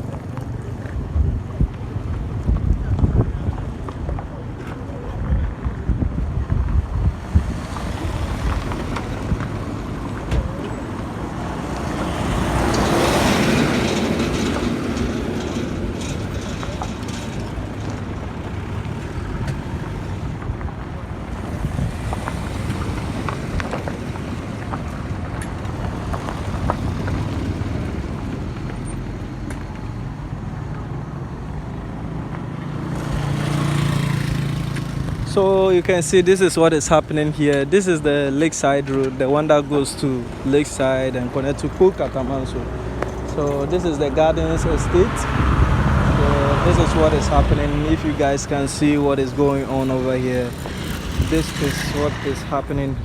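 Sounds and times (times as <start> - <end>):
road traffic passing: 0.0 - 53.0
vehicle passing close: 6.6 - 53.0.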